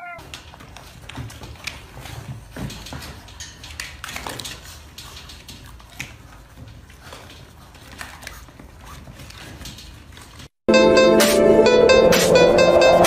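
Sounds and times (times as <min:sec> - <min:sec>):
puppies scrabbling against bars: 0:00.0 - 0:10.5.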